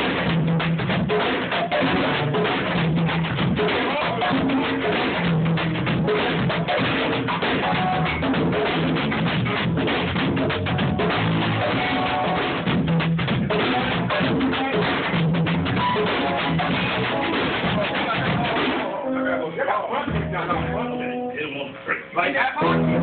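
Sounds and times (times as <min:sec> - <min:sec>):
hip hop beat: 0:00.0 - 0:23.0.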